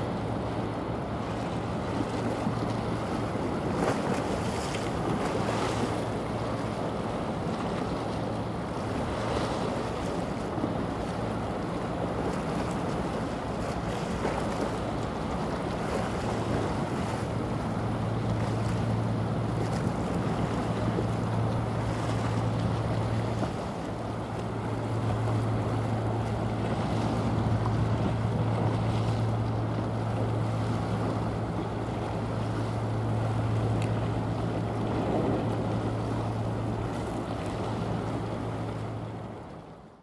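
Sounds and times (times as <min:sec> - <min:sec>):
ship engine drone: 0:00.0 - 0:40.0
water washing along hull: 0:00.0 - 0:40.0.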